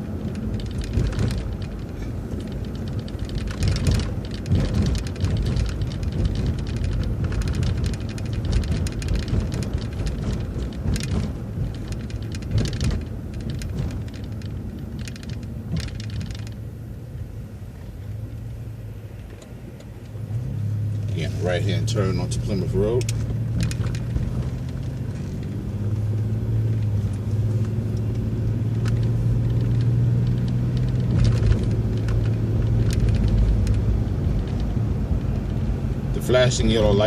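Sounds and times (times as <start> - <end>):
rattling clicks: 0.0 - 37.0
vehicle road rumble: 0.0 - 37.0.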